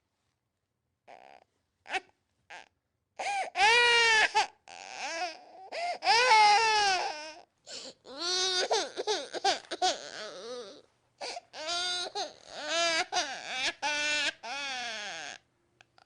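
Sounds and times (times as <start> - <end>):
infant crying: 1.1 - 15.4.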